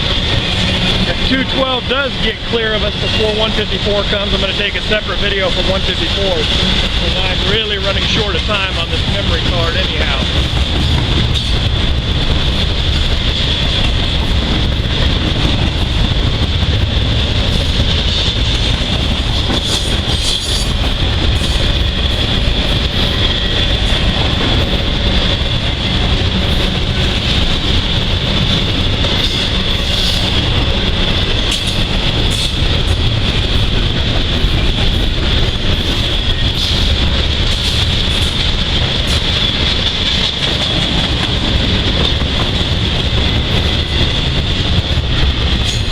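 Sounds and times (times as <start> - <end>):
freight train cars rumbling past: 0.0 - 45.9.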